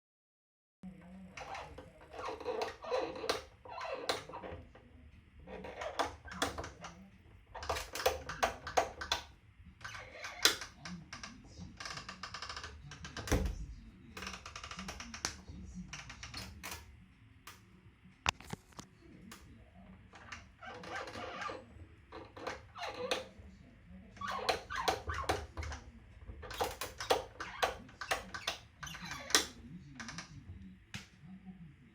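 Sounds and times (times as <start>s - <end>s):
squeaky creak: 1.2s - 16.9s, 20.1s - 30.4s.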